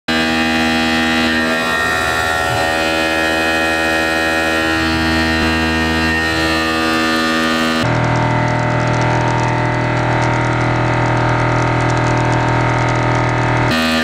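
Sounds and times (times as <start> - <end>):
milling machine cutting metal whine: 0.1 - 14.0.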